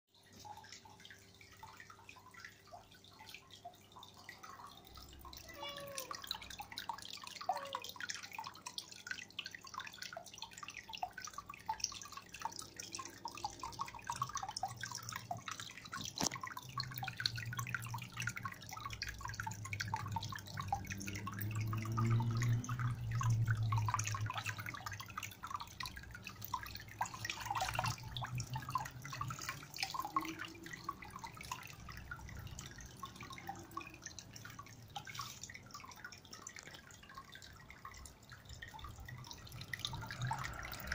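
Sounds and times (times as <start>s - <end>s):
water splashing and trickling: 0.1s - 40.9s.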